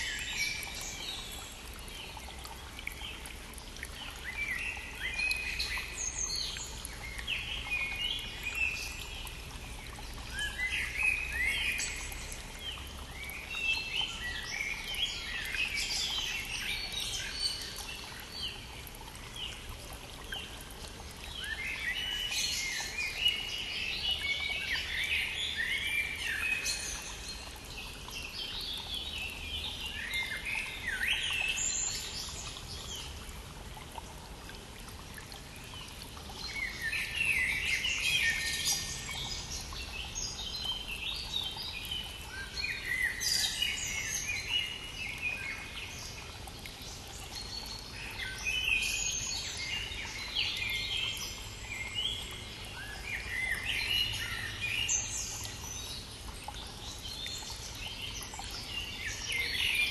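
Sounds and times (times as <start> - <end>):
small stream rushing: 0.0 - 59.9.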